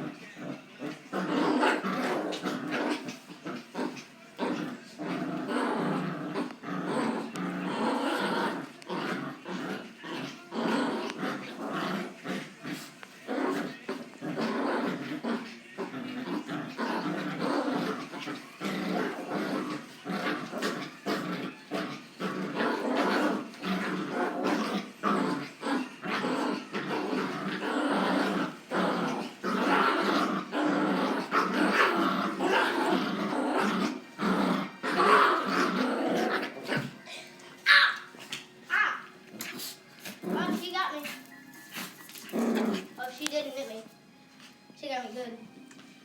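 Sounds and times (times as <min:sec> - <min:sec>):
dogs snarling and growling: 0:00.0 - 0:43.6.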